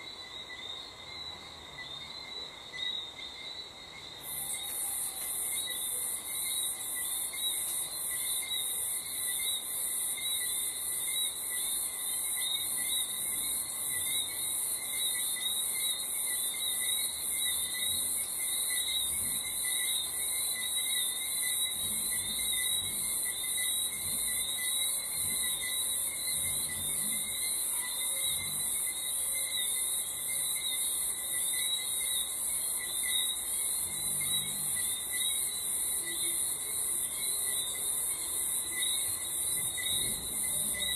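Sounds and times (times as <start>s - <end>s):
crickets chirping: 0.0s - 40.9s
low insect trills: 0.0s - 40.9s.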